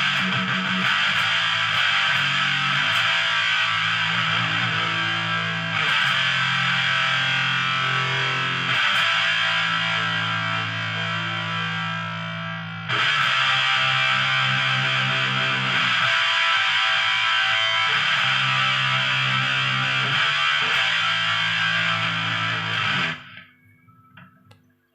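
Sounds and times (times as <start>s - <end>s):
distorted electric guitar chords: 0.0s - 23.5s.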